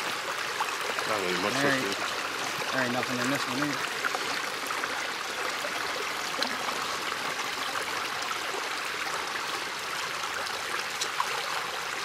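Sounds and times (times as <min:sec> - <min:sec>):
pond water sloshing and trickling: 0:00.0 - 0:12.0
small water splashes: 0:00.0 - 0:12.0.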